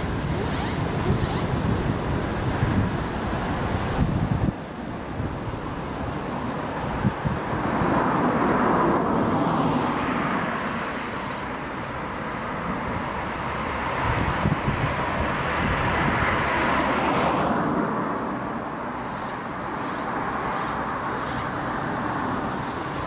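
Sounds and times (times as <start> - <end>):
wind buffeting microphone: 0.0 - 10.4, 11.7 - 23.0
cars passing by: 0.0 - 23.0.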